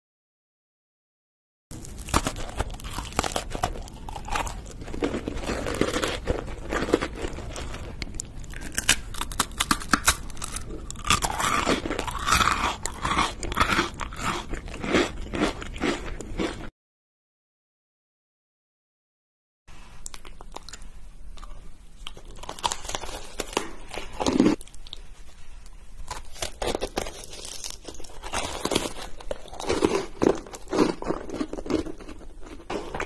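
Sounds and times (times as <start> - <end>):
crunching and chewing snacks: 1.7 - 16.7, 20.0 - 33.0.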